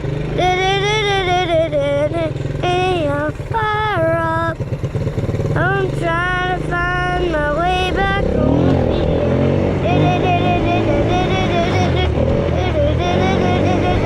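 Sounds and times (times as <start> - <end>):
small quad engine running: 0.0 - 14.0
child singing wordless notes: 0.2 - 4.6, 5.6 - 14.0.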